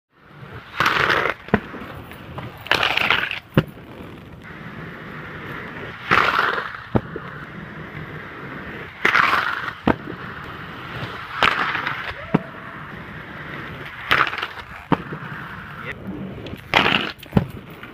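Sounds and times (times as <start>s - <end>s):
skates grinding on concrete: 0.1s - 17.9s
skates landing clack: 0.5s - 4.6s, 5.4s - 17.9s.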